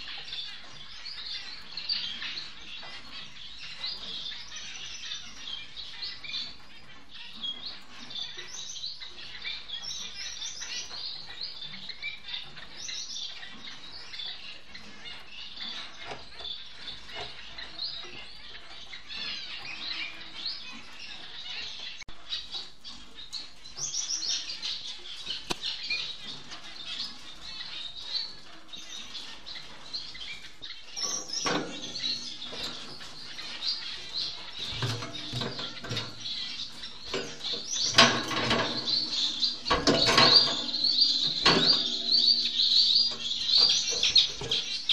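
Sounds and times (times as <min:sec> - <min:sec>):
finches chirping and twittering: 0:00.0 - 0:44.9.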